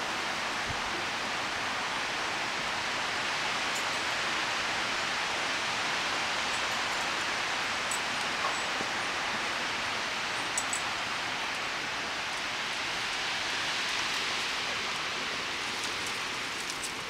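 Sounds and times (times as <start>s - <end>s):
wind blowing through trees: 0.0s - 17.0s.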